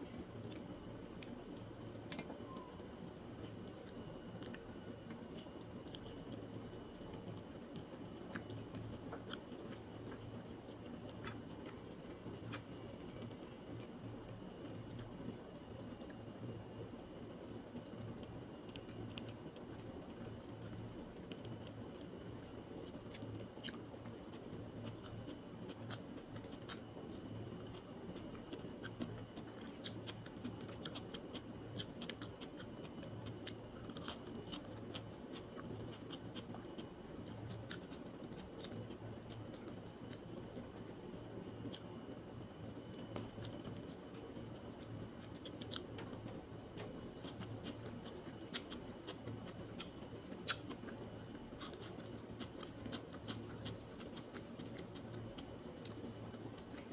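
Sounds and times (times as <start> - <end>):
low steady hum: 0.0 - 56.9
person chewing food: 0.0 - 56.9.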